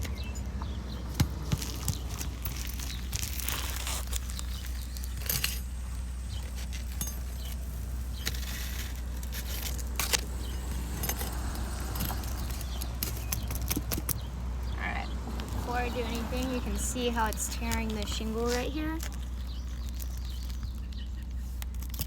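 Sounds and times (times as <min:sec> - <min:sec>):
steady low rumble: 0:00.0 - 0:22.0
metallic clinks and scrapes: 0:01.1 - 0:14.4, 0:15.4 - 0:22.0.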